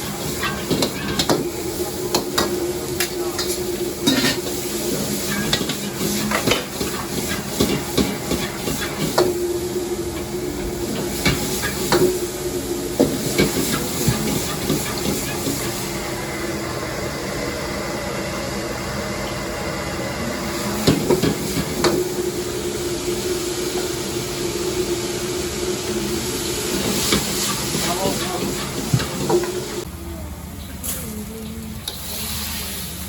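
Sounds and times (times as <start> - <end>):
burner and extractor hiss: 0.0 - 33.0.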